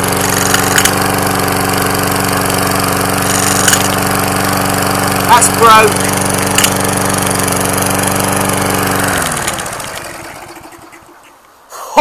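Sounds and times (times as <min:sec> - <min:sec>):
lawnmower engine running and winding down: 0:00.0 - 0:11.5.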